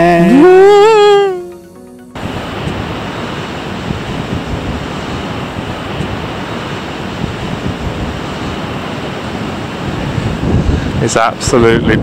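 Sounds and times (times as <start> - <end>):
sea surf breaking: 0.0 - 12.0
wind buffeting microphone: 2.2 - 12.0.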